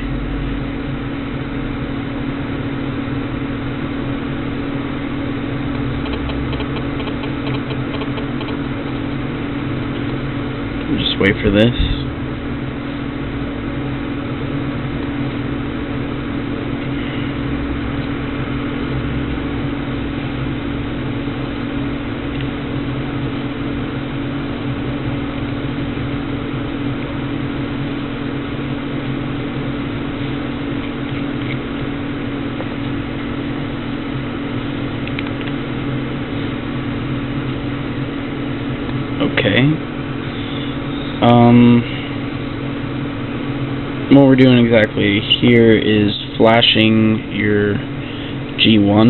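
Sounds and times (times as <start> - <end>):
low mechanical hum with hiss: 0.0 - 49.0.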